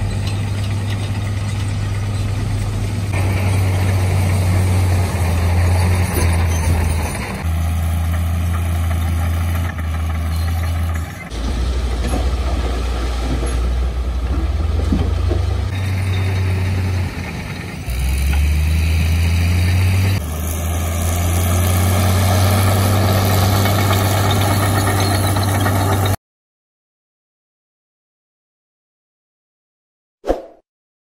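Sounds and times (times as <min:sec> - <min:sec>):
dump truck diesel engines running: 0:00.0 - 0:26.2.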